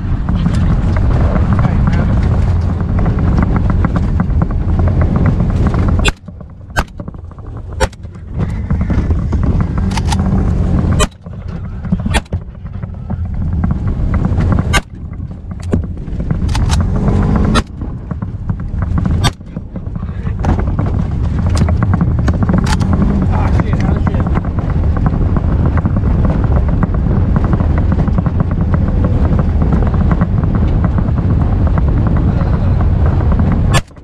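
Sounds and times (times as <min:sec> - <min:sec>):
vehicle driving rumble: 0:00.0 - 0:34.0.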